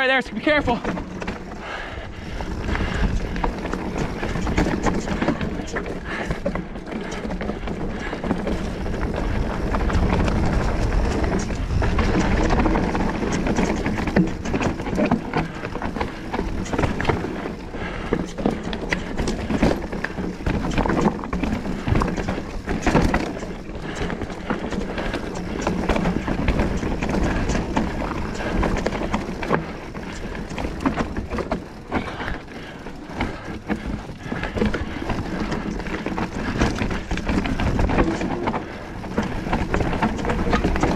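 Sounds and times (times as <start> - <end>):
bike tyres crunching over rocks: 0.0 - 40.9
bike frame and chain clattering: 0.2 - 40.9.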